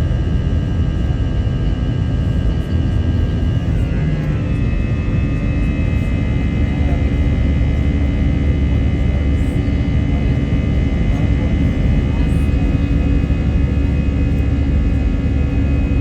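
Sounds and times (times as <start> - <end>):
jet airliner engines running: 0.0 - 16.0.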